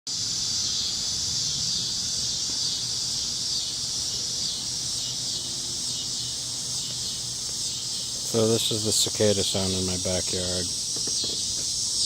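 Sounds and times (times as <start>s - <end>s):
cicadas screaming: 0.1s - 12.0s.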